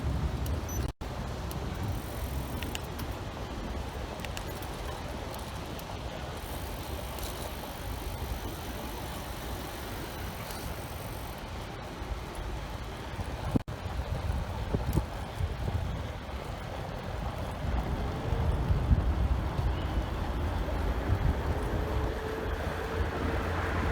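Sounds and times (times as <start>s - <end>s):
low street rumble: 0.0s - 23.9s
traffic: 0.0s - 23.9s.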